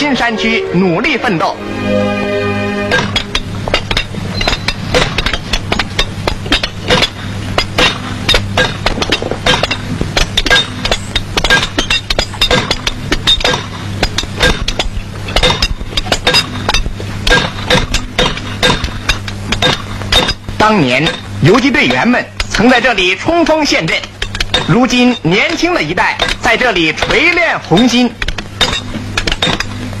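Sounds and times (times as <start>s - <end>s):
low steady hum: 0.0s - 30.0s
sledgehammers striking steel rods: 2.8s - 30.0s.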